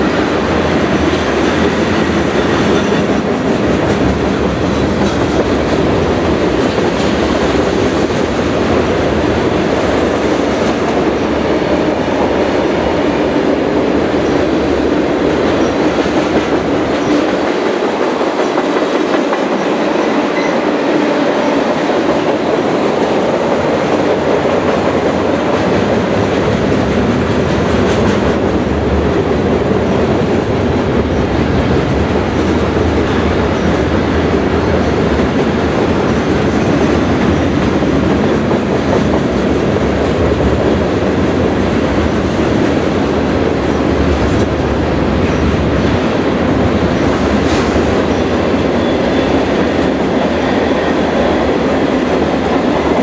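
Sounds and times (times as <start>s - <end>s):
train rolling on rails: 0.0s - 53.0s.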